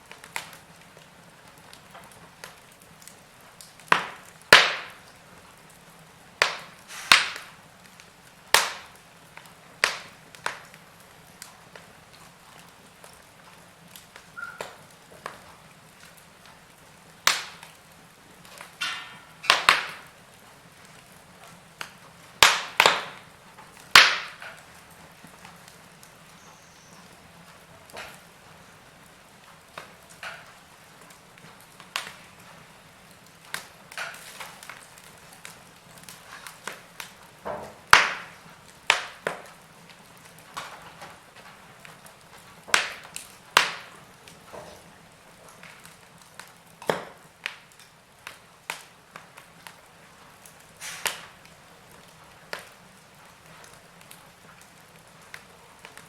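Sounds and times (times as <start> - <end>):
faint steady hiss: 0.0 - 56.0
fire crackling and popping: 0.0 - 56.0.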